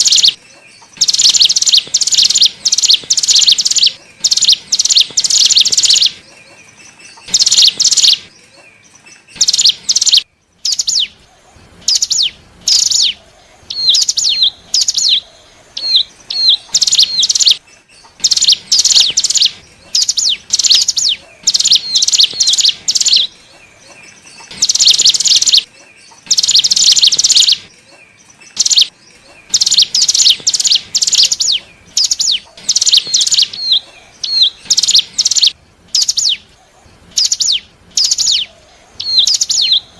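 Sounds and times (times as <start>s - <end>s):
bird high chattering song: 0.0s - 39.9s.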